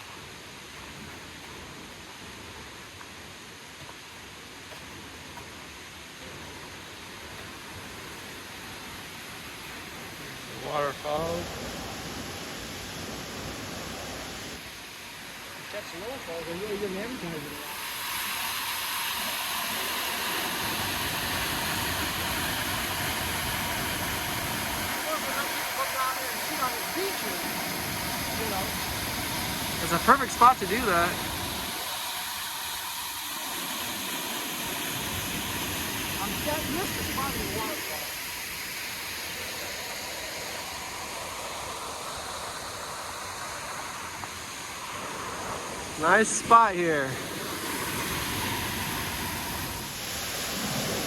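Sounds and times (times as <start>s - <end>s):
waterfall rushing: 8.6s - 51.0s.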